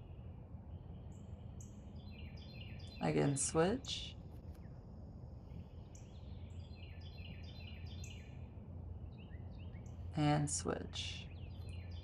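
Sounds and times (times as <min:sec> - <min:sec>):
faint birds chirping: 0:00.0 - 0:12.0
steady low hum: 0:00.0 - 0:12.0.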